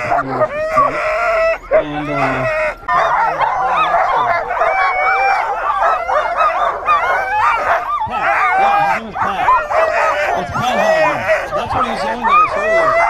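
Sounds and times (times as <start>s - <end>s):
dogs yelping and barking: 0.0s - 13.0s.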